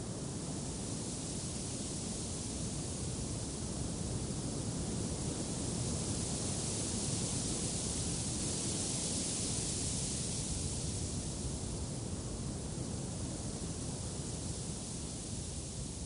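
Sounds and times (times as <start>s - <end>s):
steady wind: 0.0s - 16.0s.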